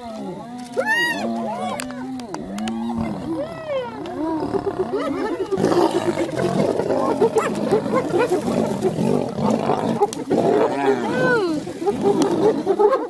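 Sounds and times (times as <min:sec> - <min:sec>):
wild animals growling and crying: 0:00.0 - 0:13.0.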